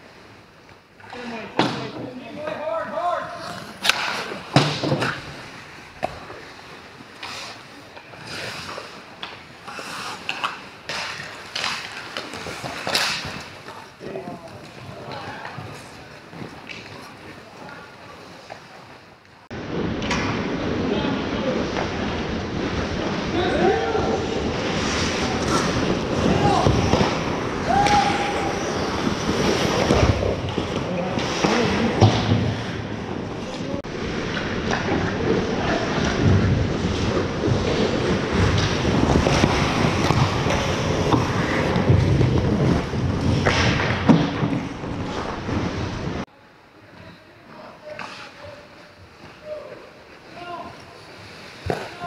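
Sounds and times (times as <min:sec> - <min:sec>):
skates scraping on ice: 0:00.1 - 0:19.2, 0:21.4 - 0:46.3, 0:46.9 - 0:52.0
hockey sticks and puck clacking: 0:00.7 - 0:19.0, 0:24.4 - 0:32.8, 0:33.4 - 0:45.9, 0:46.9 - 0:52.0.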